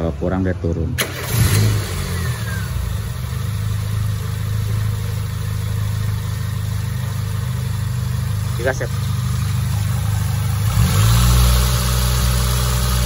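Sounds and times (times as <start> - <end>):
car engine idling: 0.6 - 13.0.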